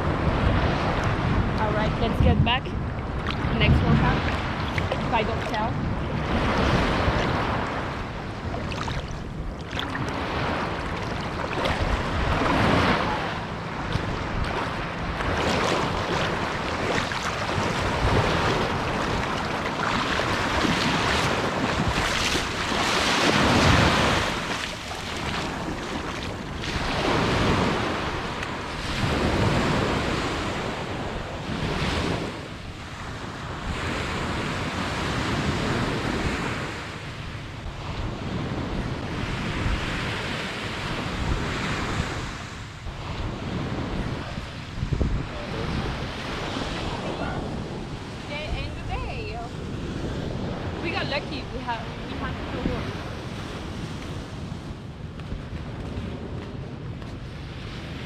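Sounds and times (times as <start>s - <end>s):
ocean waves breaking on beach: 0.0s - 58.0s
wind buffeting microphone: 0.0s - 58.0s.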